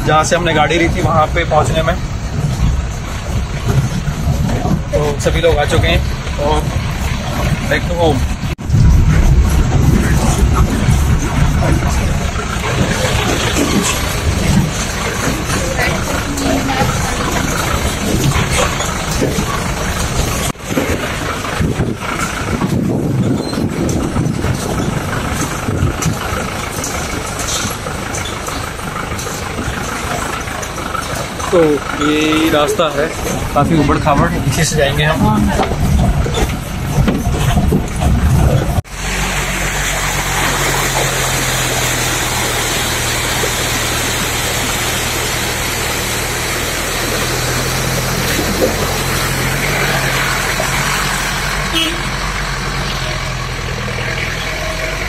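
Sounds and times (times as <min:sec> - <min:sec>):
off-road vehicle engine running: 0:00.0 - 0:55.0
water rushing over rocks: 0:00.0 - 0:55.0
vehicle body knocks and jolts: 0:00.8 - 0:31.8, 0:33.1 - 0:38.9, 0:39.9 - 0:52.1.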